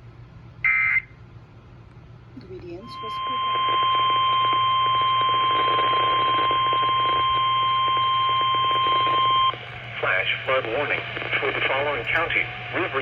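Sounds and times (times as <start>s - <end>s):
loud steady alarm tone: 0.6s - 1.1s, 2.8s - 13.0s
radio hiss and hum: 2.4s - 13.0s.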